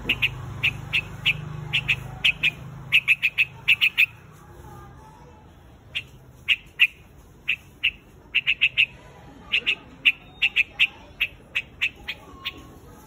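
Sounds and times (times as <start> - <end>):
bird call notes: 0.0 - 4.2, 5.9 - 12.7.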